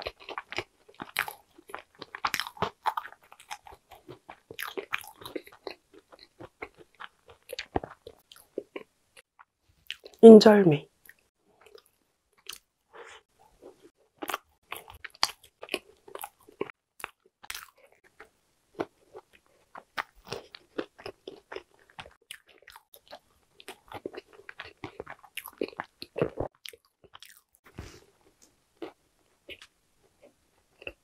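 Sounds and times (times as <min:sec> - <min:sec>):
crunchy chewing: 0:00.0 - 0:10.2, 0:11.0 - 0:31.0.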